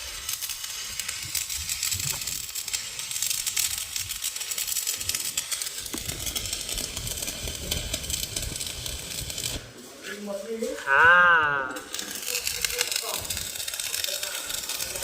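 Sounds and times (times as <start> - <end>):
welding arc crackling and hissing: 0.0 - 15.0.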